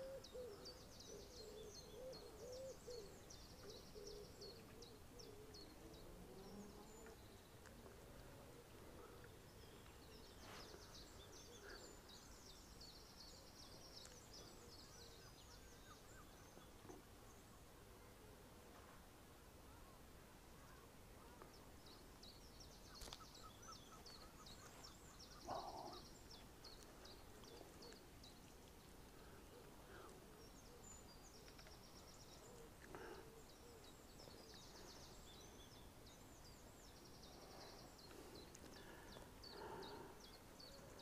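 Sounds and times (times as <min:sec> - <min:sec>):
small birds chirping and trilling: 0:00.0 - 0:18.2, 0:20.6 - 0:41.0
outdoor background noise: 0:00.0 - 0:41.0.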